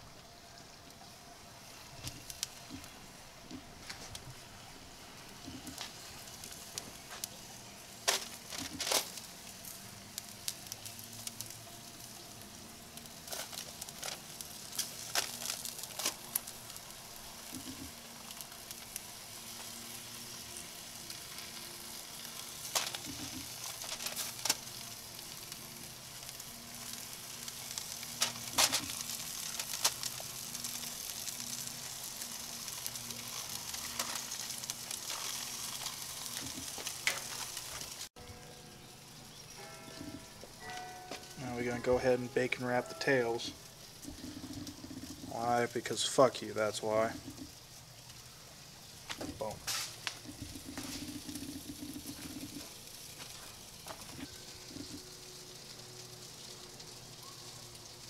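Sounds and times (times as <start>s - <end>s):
bacon sizzling: 0.0s - 58.0s
sharp crackles: 0.0s - 58.0s.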